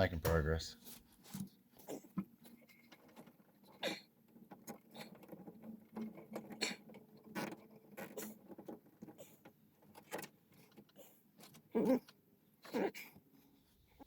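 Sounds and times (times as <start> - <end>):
wires rustling and scraping: 0.3 - 12.2.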